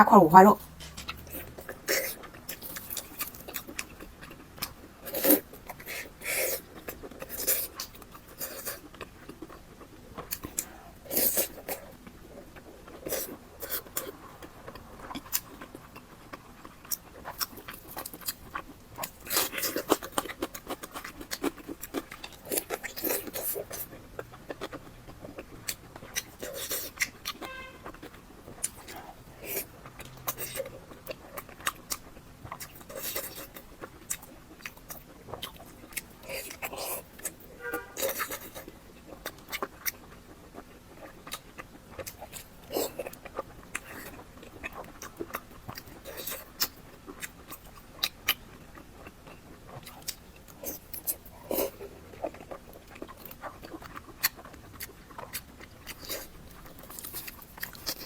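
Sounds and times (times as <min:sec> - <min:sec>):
wet chewing and mouth smacks: 0:00.7 - 0:58.0.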